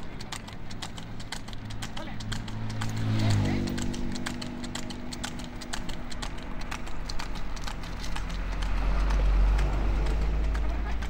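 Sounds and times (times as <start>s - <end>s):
hooves clip-clopping on asphalt: 0.0s - 11.0s.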